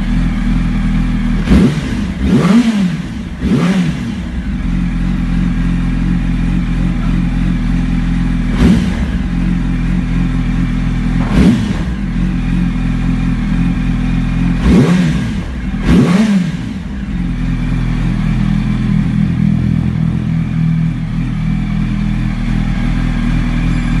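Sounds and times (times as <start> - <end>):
engine revving: 0.0 - 24.0
motorcycle engine idling: 0.0 - 24.0.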